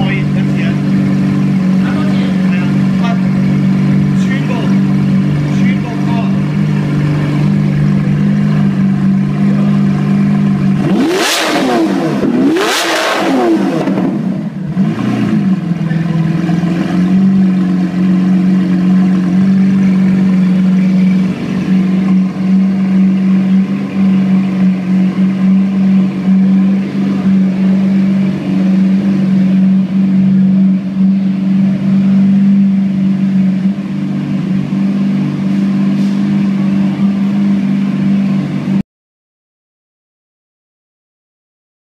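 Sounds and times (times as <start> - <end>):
sports car engine idling and revving: 0.0 - 38.8.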